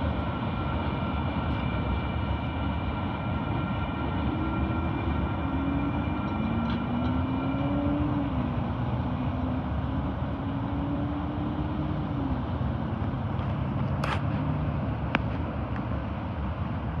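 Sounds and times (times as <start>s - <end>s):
freight train rumbling: 0.0s - 17.0s
low engine hum: 0.0s - 17.0s.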